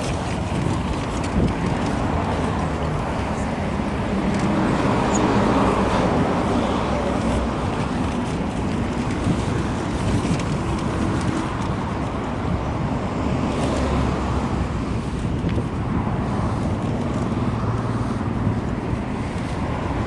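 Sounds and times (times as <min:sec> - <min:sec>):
car traffic: 0:00.0 - 0:20.0
road and wind noise: 0:00.0 - 0:20.0.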